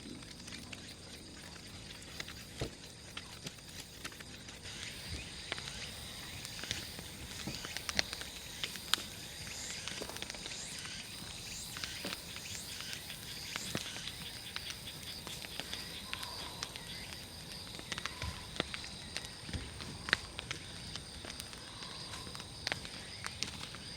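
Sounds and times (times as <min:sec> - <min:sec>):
bonfire crackling and popping: 0:00.0 - 0:23.9
high-pitched insect drone: 0:00.0 - 0:23.9.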